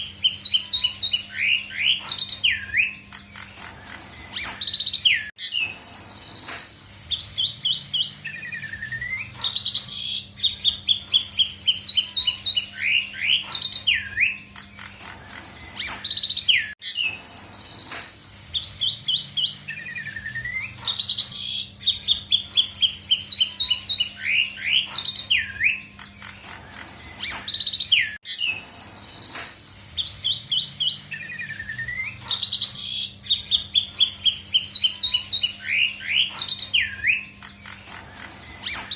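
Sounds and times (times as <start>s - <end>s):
starling singing whistles: 0.0s - 38.9s.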